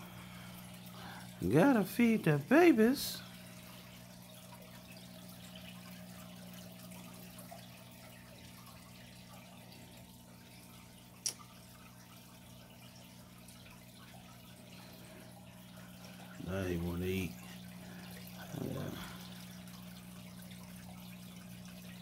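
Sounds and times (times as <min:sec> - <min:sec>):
aquarium filter humming: 0:00.0 - 0:22.0
water trickling and dripping: 0:00.0 - 0:22.0.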